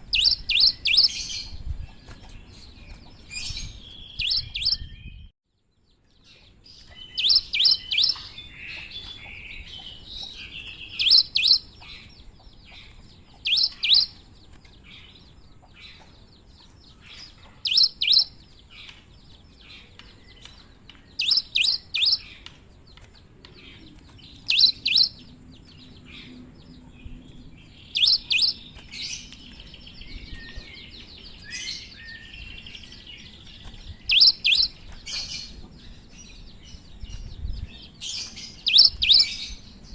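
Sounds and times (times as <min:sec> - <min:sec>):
soft bird twittering: 0:00.0 - 0:39.9.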